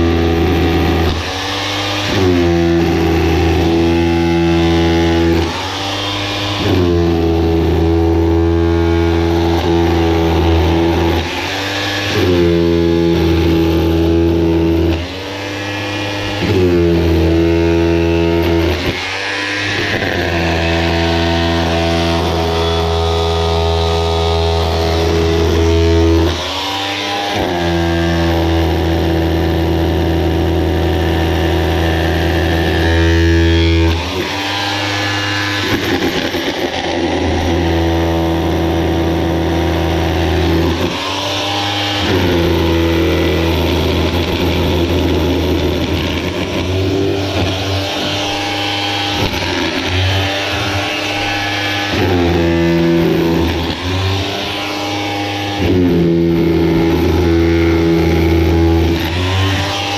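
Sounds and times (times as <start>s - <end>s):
rotary hammer chiselling concrete: 0.0s - 59.9s.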